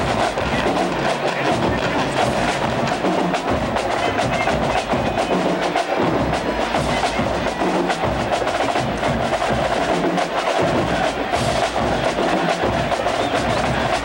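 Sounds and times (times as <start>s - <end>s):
snare drums rapid strokes: 0.0s - 14.0s.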